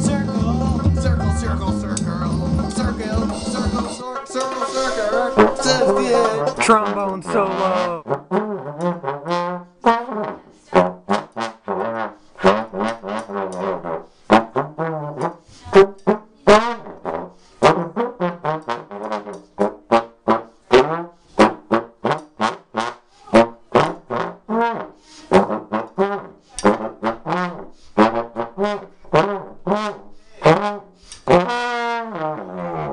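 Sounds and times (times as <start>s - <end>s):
slide trombone solo: 0.0s - 32.9s.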